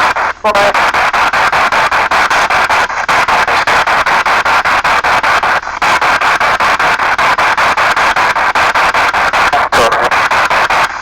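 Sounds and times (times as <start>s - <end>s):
fragments of broadcast sound: 0.0s - 11.0s
radio static sweeping: 0.0s - 11.0s.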